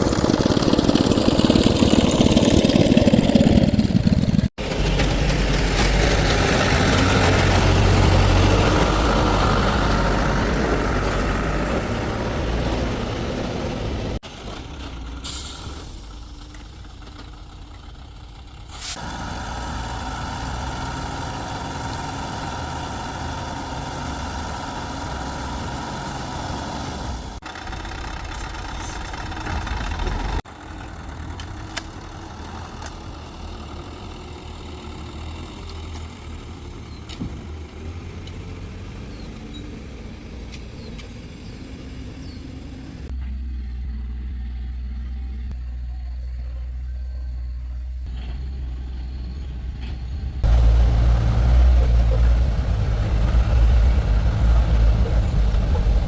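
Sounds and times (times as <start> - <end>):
heavy vehicle engine running: 0.0 - 56.0.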